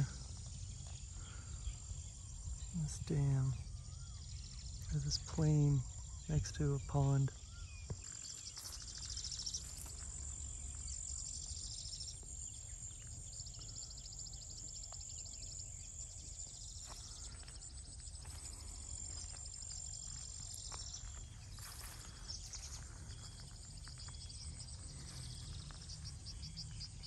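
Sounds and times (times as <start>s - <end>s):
high-pitched insect drone: 0.0s - 6.6s, 7.3s - 27.0s
insects chirping in pulsed trills: 0.0s - 27.0s.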